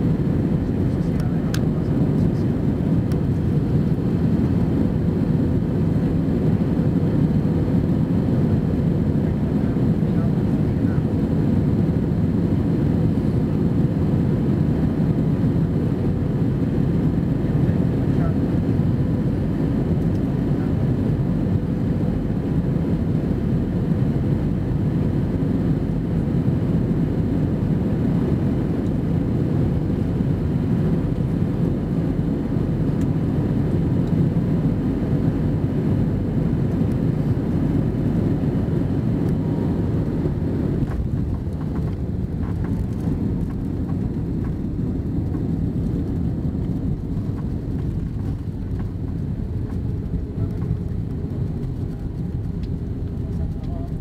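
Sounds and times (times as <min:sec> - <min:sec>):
aircraft engine rumble: 0:00.0 - 0:54.0.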